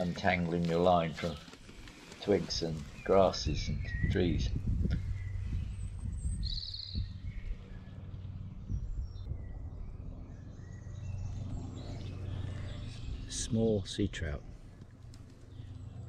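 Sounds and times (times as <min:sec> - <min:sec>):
low background rumble: 0:00.0 - 0:16.0
small birds singing: 0:00.0 - 0:16.0
high bird trill: 0:01.2 - 0:16.0.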